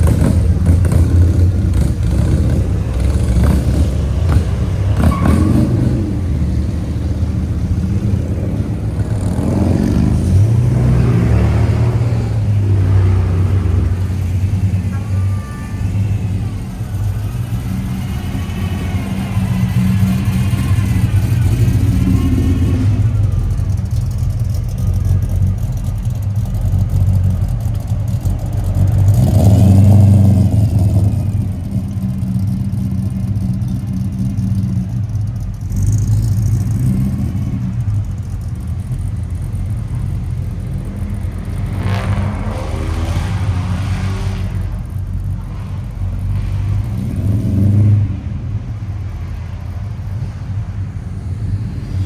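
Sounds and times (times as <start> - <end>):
car engines revving: 0.0 - 52.0.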